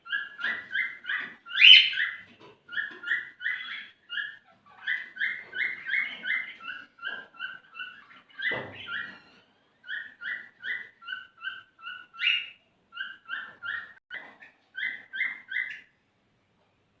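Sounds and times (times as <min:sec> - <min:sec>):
cockatiel whistling song: 0:00.1 - 0:14.0, 0:14.8 - 0:15.9.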